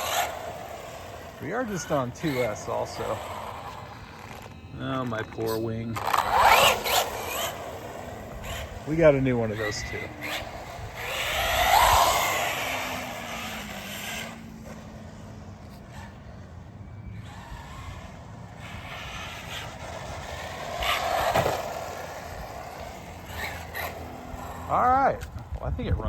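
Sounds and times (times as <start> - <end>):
electric rc car passing: 0.0 - 26.0.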